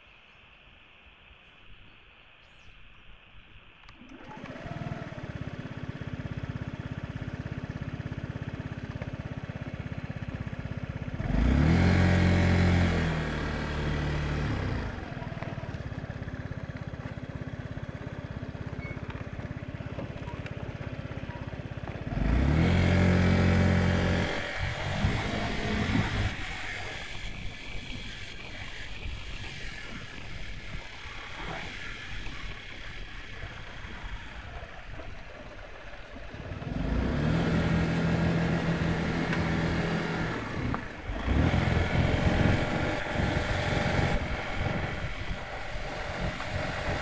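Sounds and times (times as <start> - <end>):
scooter engine starting and revving: 3.9 - 47.0.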